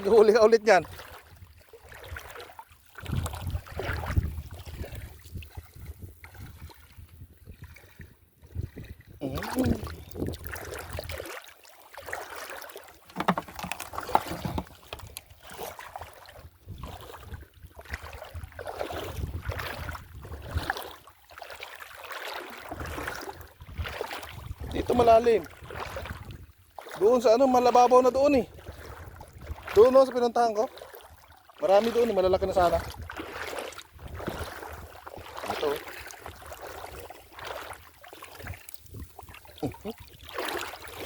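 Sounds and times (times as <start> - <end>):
water sloshing and splashing: 0.0 - 41.0.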